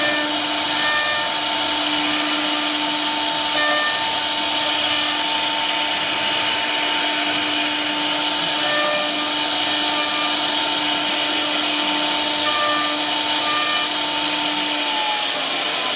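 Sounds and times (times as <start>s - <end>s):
wood router machine whine: 0.0s - 15.9s.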